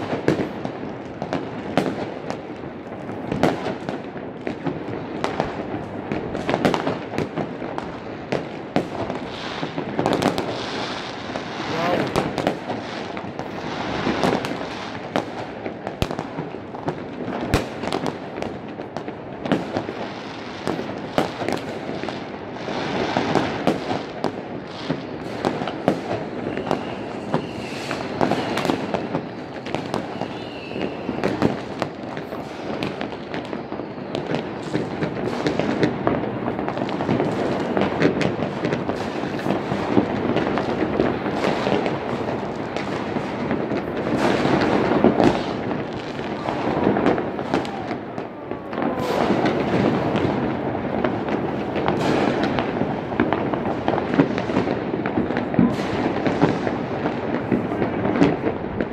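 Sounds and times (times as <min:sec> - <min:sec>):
fireworks and firecrackers banging: 0:00.0 - 0:58.9.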